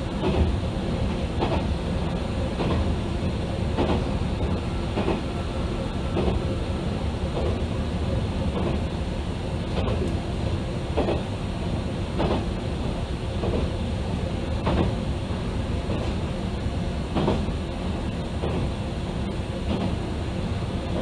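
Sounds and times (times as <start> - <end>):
railcar engine and wheels rumbling: 0.0 - 21.0.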